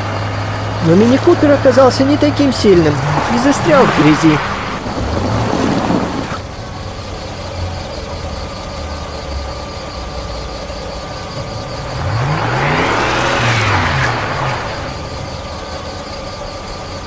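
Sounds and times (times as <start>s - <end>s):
car engine revving: 0.0s - 8.0s, 10.4s - 16.8s.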